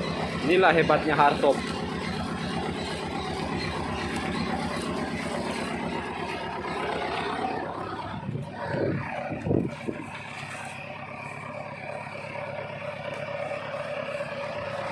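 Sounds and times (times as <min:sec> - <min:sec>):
diesel engine running steadily: 0:00.0 - 0:14.9.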